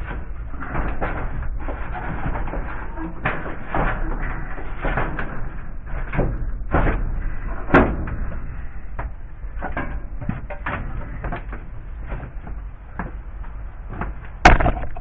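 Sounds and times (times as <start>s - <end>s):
irregular knocks and clunks: 0.0s - 15.0s
steady low rumble: 0.0s - 15.0s.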